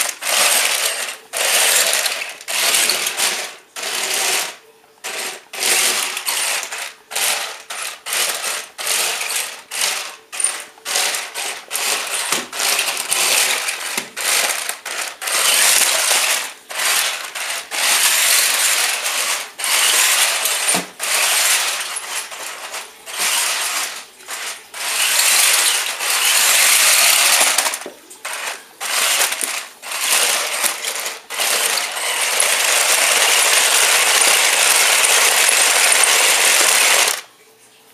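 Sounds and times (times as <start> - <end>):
toy motors whirring: 0.0 - 37.3
toy treads clattering: 0.0 - 37.3.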